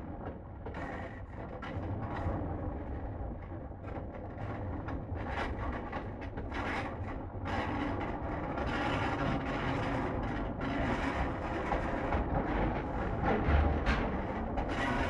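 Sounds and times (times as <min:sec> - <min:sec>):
train carriage low rumble: 0:00.0 - 0:15.0.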